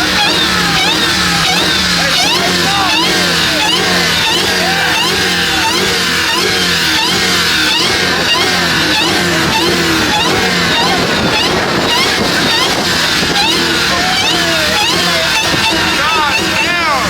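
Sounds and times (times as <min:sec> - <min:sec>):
car engines revving hard: 0:00.0 - 0:17.0.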